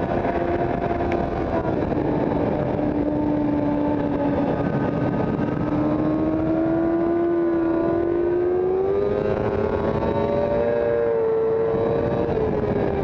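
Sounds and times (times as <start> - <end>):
motorcycle engine accelerating: 0.0 - 13.0
wind noise: 0.0 - 13.0.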